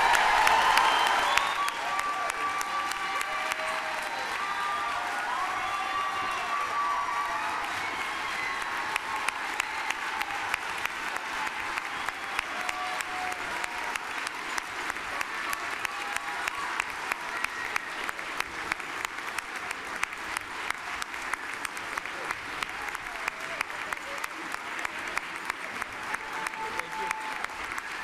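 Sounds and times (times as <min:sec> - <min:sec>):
large crowd applauding: 0:00.0 - 0:28.0.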